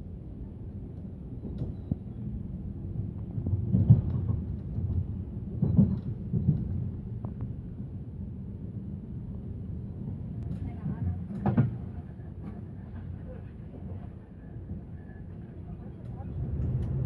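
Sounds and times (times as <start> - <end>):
train rumbling inside carriage: 0.0 - 17.0.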